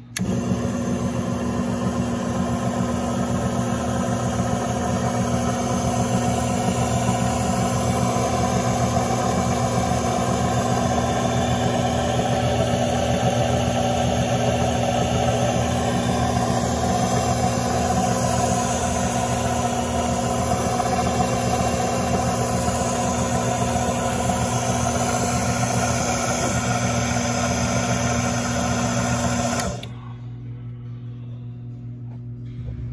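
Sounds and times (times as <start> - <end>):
drill press motor humming: 0.0 - 30.0.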